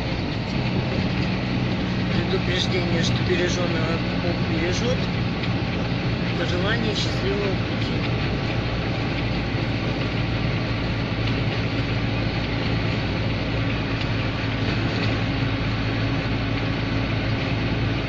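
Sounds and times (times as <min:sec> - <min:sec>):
tyre road noise: 0:00.0 - 0:18.0
van engine drone: 0:00.0 - 0:18.0.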